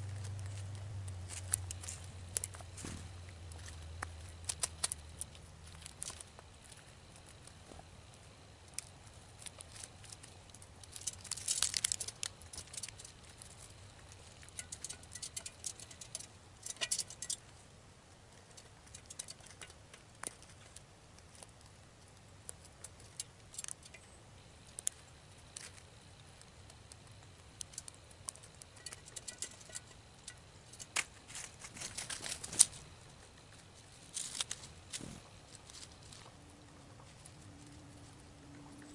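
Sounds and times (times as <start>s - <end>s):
squirrel claws and teeth on seeds: 0.0s - 38.9s.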